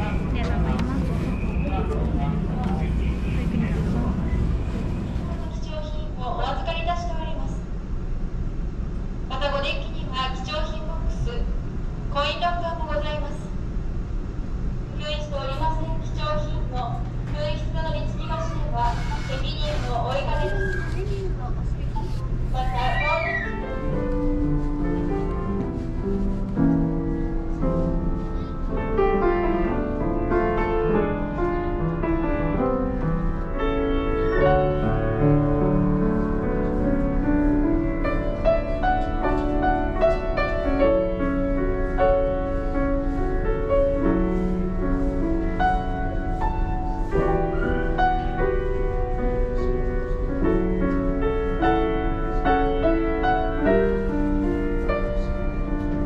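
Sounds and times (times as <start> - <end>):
grand piano melody: 0.0 - 8.8, 13.7 - 56.0
steady low hum: 0.0 - 56.0.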